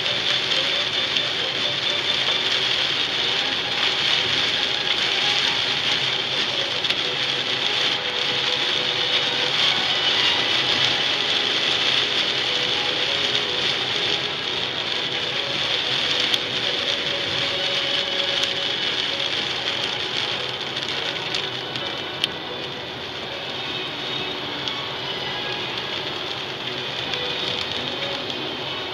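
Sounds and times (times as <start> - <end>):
car engine and road noise: 0.0 - 28.9
heavy rain and tyre spray: 0.0 - 28.9.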